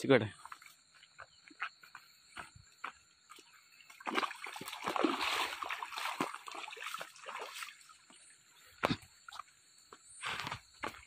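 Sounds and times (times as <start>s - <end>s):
footsteps through wet mud and grass: 0.3s - 11.0s.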